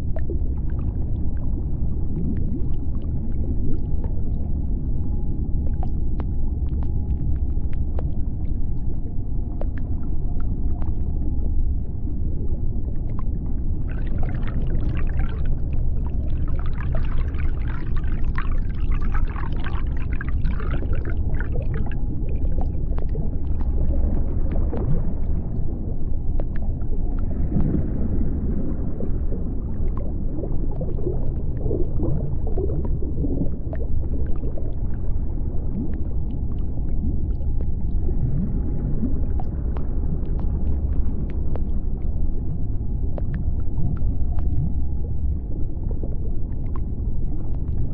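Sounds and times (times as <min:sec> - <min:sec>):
crackling and bubbling: 0:00.0 - 0:47.9
deep underwater rumble: 0:00.0 - 0:47.9.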